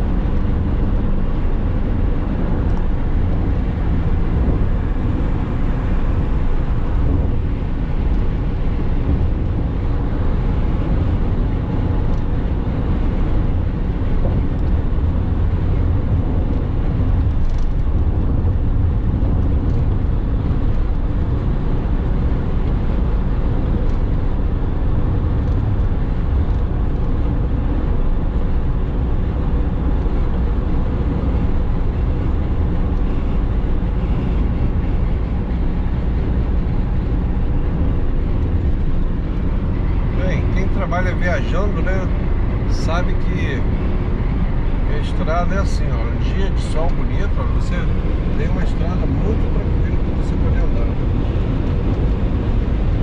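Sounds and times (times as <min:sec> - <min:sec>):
car cabin road rumble: 0:00.0 - 0:53.0.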